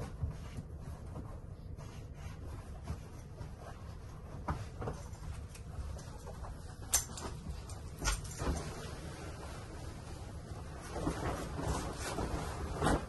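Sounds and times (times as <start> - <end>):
bed sheet rustling: 0.0 - 13.0
steady low hum: 0.0 - 13.0.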